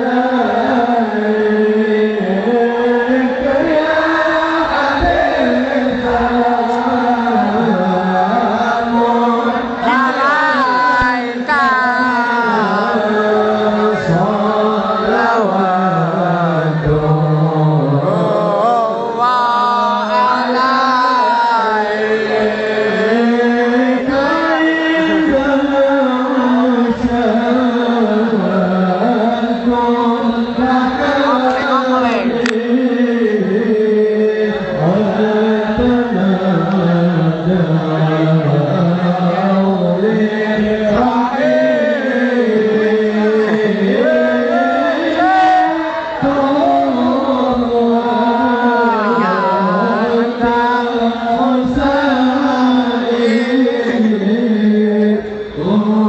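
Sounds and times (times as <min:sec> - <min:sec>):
person singing devotional song: 0:00.0 - 0:56.0.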